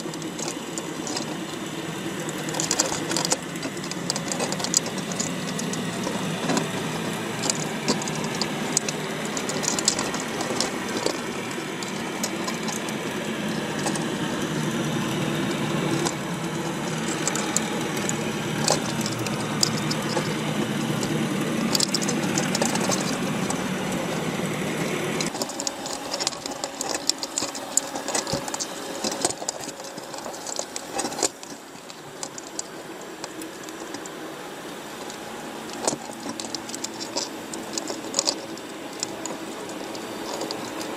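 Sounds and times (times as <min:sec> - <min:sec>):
crabs clicking and scraping underwater: 0:00.0 - 0:40.9
steady mechanical hum: 0:00.0 - 0:40.9.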